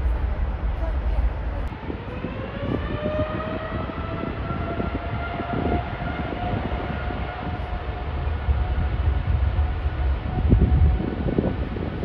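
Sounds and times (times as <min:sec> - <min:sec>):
jet engines whining: 0:00.0 - 0:12.0
low rumble: 0:00.0 - 0:12.0.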